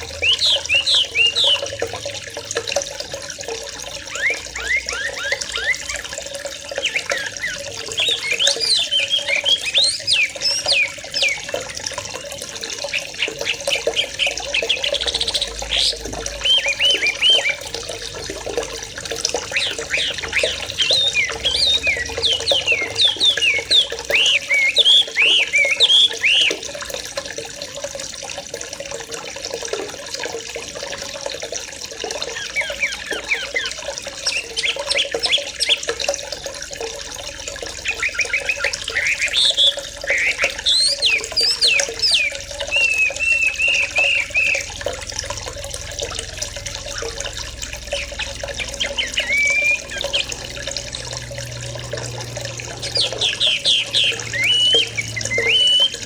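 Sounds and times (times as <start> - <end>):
bird trill: 0.0 - 1.8, 3.9 - 26.8, 32.0 - 36.3, 37.2 - 45.3, 46.4 - 51.0, 52.6 - 56.0
birds chattering and chirping: 0.0 - 27.2, 30.6 - 56.0
running water rushing: 0.0 - 56.0.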